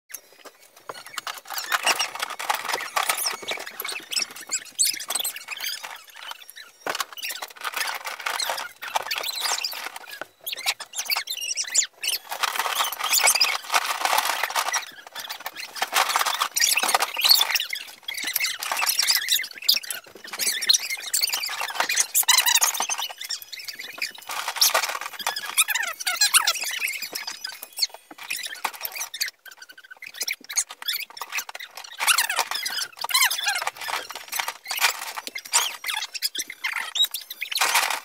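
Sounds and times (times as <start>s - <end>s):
wooden blocks clattering: 0.2s - 38.0s.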